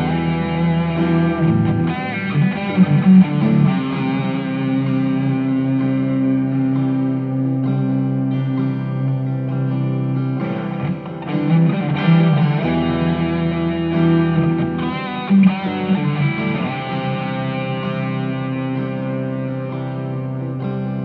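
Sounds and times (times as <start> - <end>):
electric guitar lead with bends: 0.0 - 21.0
looped acoustic guitar chords: 0.0 - 21.0.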